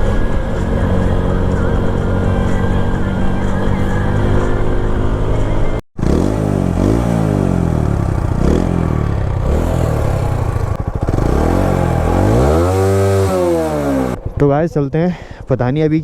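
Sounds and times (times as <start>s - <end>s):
motorcycle engine revving: 0.0s - 15.4s.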